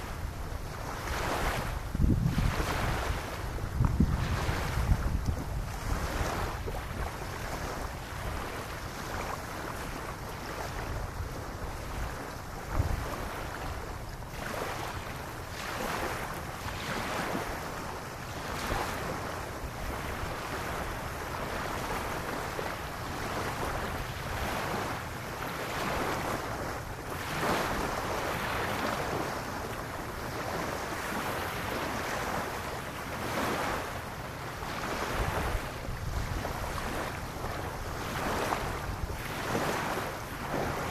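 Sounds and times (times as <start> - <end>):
small waves lapping on beach: 0.0 - 40.9
wind rumbling on microphone: 0.0 - 40.9.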